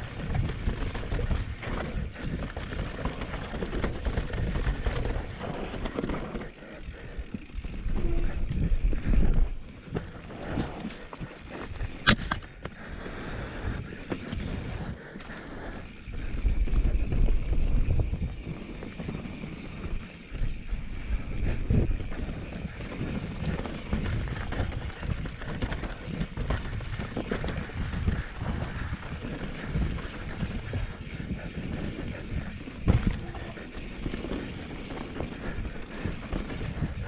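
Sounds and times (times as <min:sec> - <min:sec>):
bike knocking and rattling: 0:00.0 - 0:37.0
tyres on dirt: 0:00.0 - 0:37.0
wind rumbling on microphone: 0:00.0 - 0:37.0.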